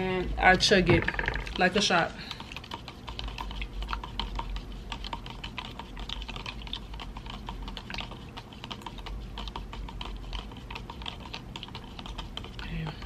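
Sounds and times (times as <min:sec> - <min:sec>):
plastic stirrer rattling in cup: 0:00.5 - 0:13.0.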